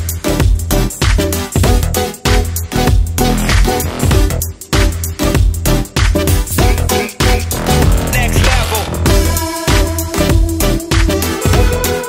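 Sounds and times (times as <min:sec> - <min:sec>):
electronic music with deep bass: 0:00.0 - 0:12.0.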